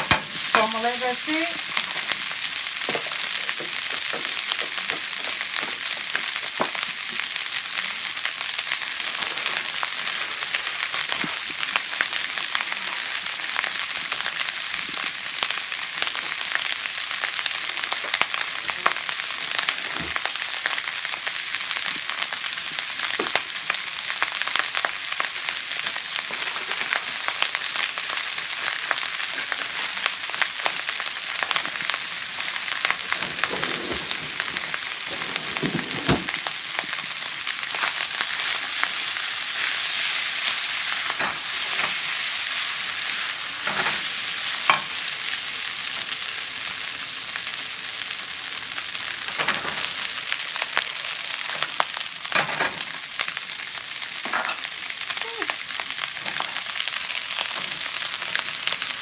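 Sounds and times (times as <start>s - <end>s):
rice sizzling in a pan: 0.0s - 59.0s.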